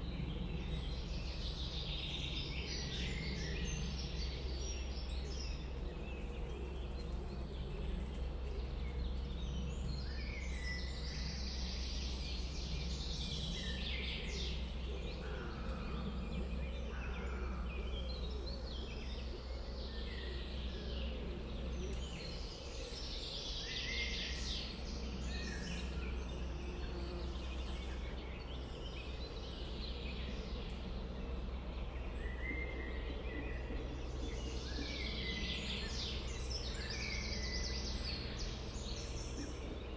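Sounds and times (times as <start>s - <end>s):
low background rumble: 0.0s - 39.9s
wild birds singing: 0.0s - 39.9s.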